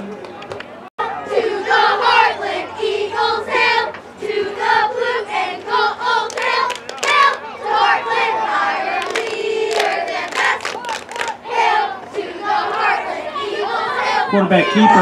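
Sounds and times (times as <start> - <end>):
group chanting a cheer: 1.1 - 15.0.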